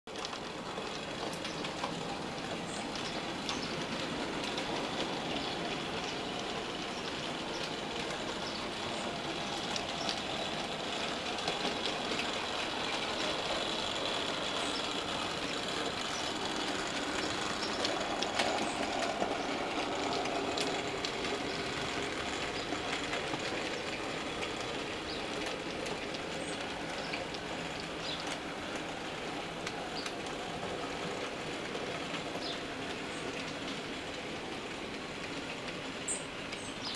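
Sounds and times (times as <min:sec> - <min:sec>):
wheels clicking over rail joints: 0:00.1 - 0:36.9
model train motors whirring: 0:00.2 - 0:36.9.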